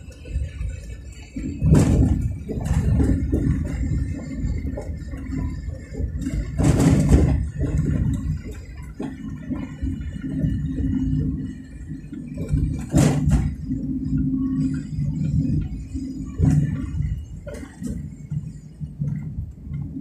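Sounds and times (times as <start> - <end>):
vehicle rumble: 0.0 - 20.0
wind buffeting microphone: 0.0 - 20.0.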